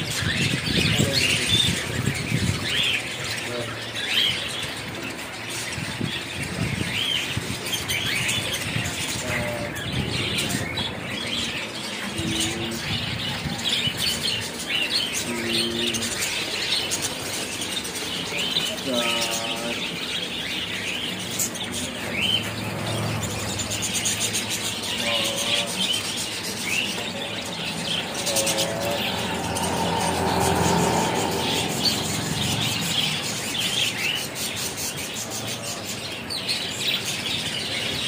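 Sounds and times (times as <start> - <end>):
budgerigars chattering: 0.0 - 38.0.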